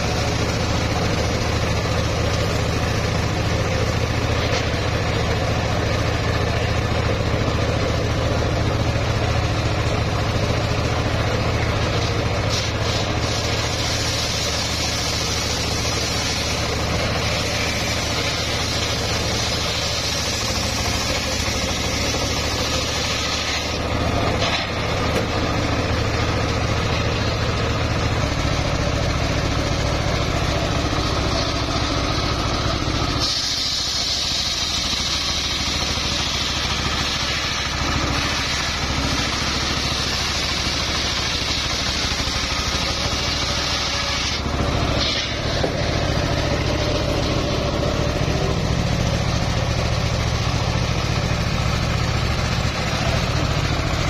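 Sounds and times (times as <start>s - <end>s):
circular saw cutting wood: 0.0s - 54.0s
engine humming: 0.0s - 54.0s.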